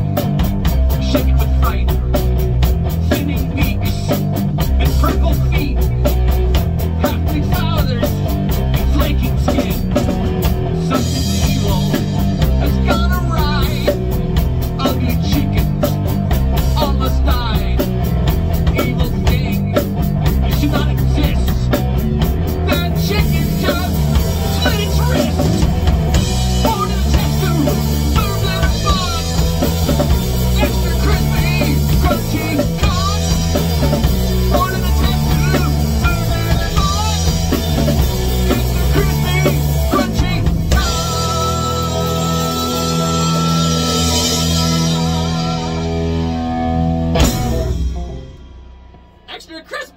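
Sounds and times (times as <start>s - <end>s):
live rock band playing: 0.0s - 49.9s
man singing: 0.9s - 2.3s, 2.9s - 6.2s, 6.9s - 14.1s, 14.7s - 21.9s, 22.6s - 46.2s.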